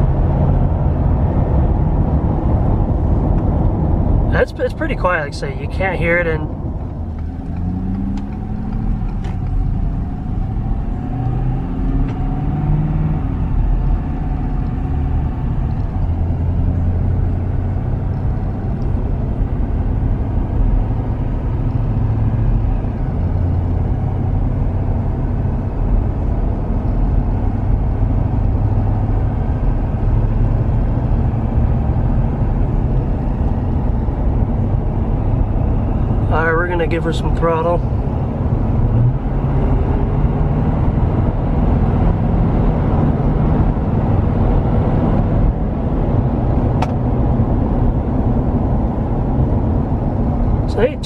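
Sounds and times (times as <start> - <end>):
diesel engine drone: 0.0 - 51.0
road noise: 0.0 - 51.0.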